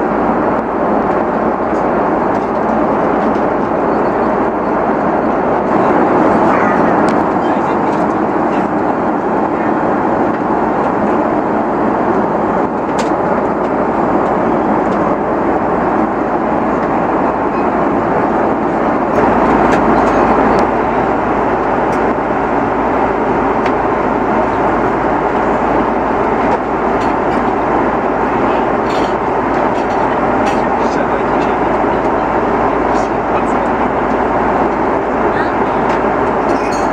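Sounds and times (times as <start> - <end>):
airliner cabin engine rush: 0.0 - 36.9.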